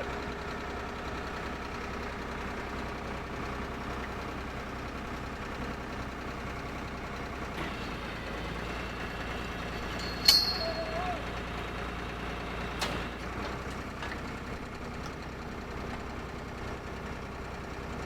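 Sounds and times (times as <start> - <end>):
drill rig engine running: 0.0 - 16.6.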